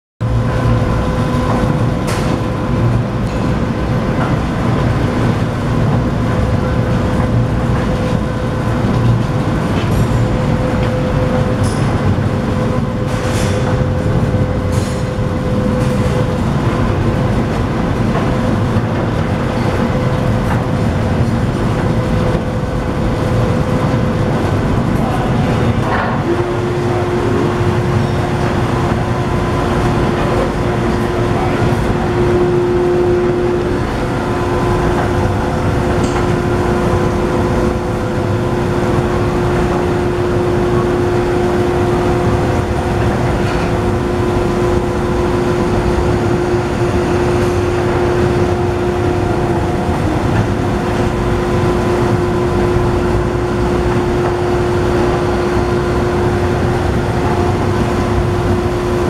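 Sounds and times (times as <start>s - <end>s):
roaster burner and blower rumble: 0.2s - 59.0s
steady hum: 0.2s - 59.0s.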